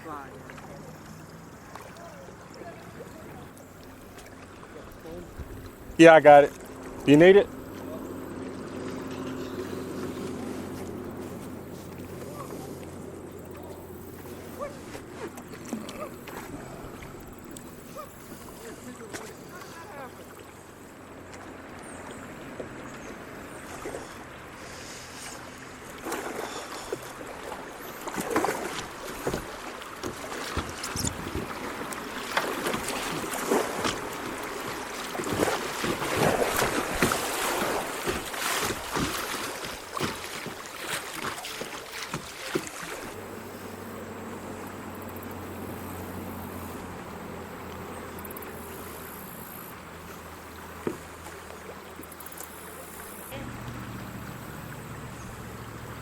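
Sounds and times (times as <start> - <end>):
paddle strokes splashing: 0.0 - 56.0
water: 0.0 - 56.0.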